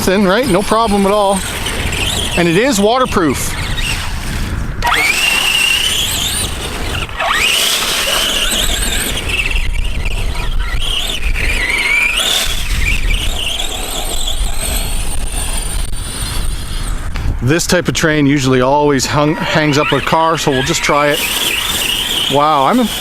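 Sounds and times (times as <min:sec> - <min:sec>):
toy truck electric motor whining: 0:00.0 - 0:17.2, 0:19.1 - 0:23.0.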